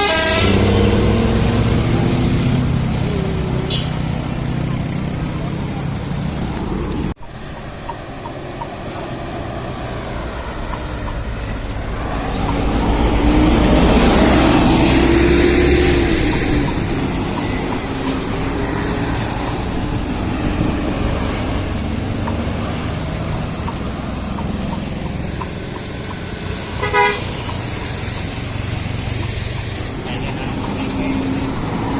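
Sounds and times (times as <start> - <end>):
bus engine rumbling past: 0.0 - 31.9
steady traffic noise: 0.0 - 31.9.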